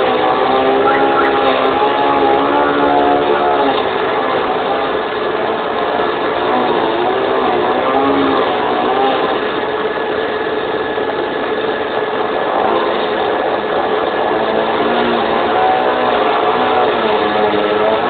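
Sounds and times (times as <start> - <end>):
small petrol engine running: 0.0 - 18.0.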